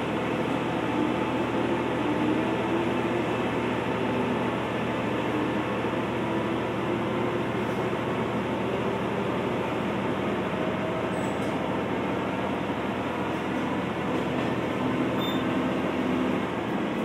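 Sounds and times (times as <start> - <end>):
railcar engine: 0.0 - 17.0.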